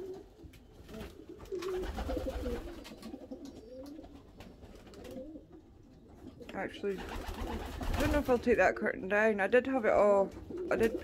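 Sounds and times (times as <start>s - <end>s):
pigeons cooing: 0.0s - 9.0s, 10.3s - 11.0s.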